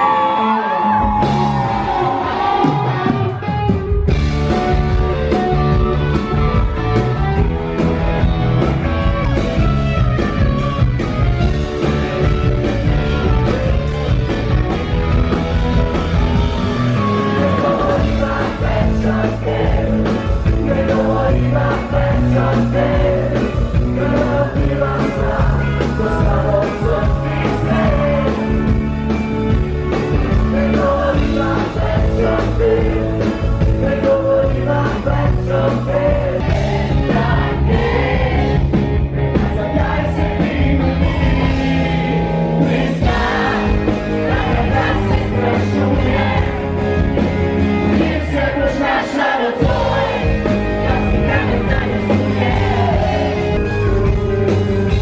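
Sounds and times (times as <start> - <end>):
rock band with singing: 0.0 - 55.0.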